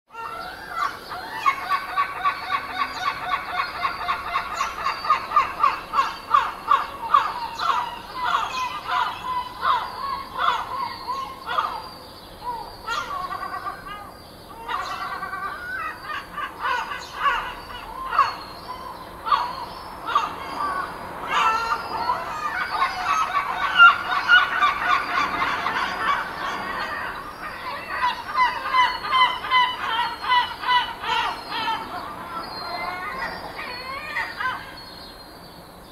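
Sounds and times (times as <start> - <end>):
gulls calling: 0.1 - 35.9.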